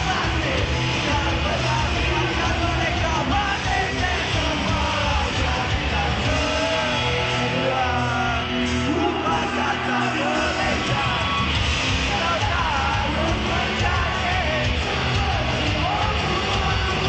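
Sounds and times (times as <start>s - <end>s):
person singing: 0.0s - 17.0s
rock band playing live: 0.0s - 17.0s.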